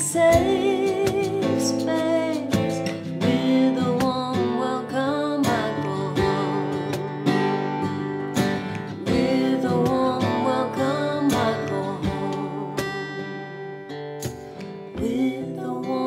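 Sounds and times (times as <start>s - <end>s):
song with strummed acoustic guitar: 0.0s - 16.0s.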